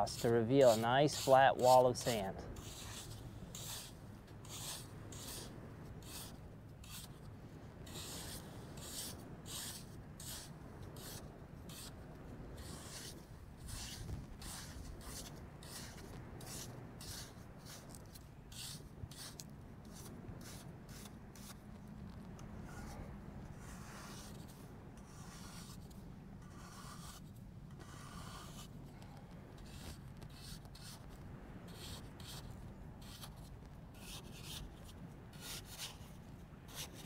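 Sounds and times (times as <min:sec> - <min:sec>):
spatula scraping wet sand: 0:00.0 - 0:07.2, 0:07.8 - 0:12.0, 0:12.6 - 0:21.6, 0:22.6 - 0:28.8, 0:29.6 - 0:33.4, 0:34.0 - 0:37.0.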